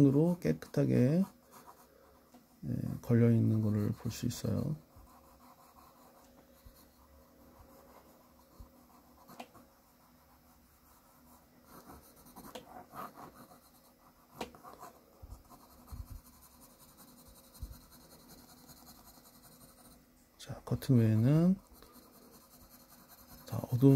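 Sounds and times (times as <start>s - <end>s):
pencil scratching on paper: 0.0s - 20.0s, 20.7s - 23.9s.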